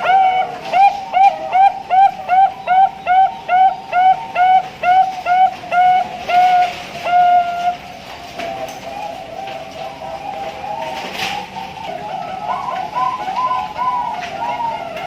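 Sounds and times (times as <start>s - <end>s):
dove cooing: 0.0s - 15.0s
fainter dove cooing: 0.0s - 15.0s.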